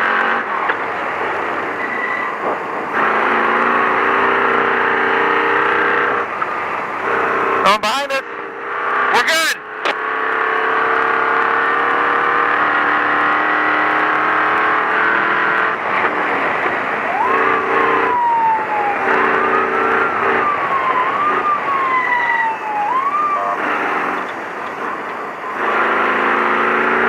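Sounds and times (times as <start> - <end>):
road and wind noise: 0.0 - 27.0
truck engine revving: 0.0 - 27.0.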